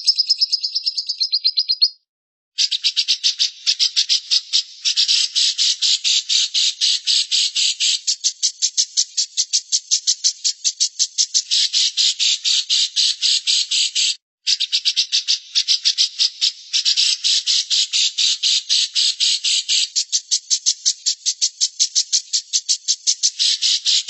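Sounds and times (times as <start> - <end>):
bird harsh chattering call: 0.0 - 2.0, 2.6 - 24.0.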